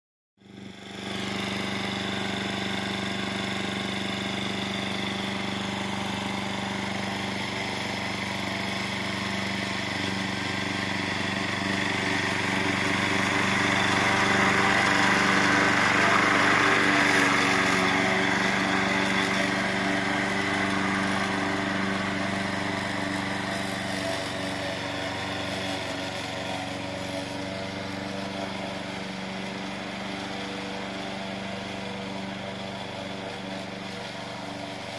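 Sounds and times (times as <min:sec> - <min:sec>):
lawn mower engine running: 0:00.4 - 0:34.9.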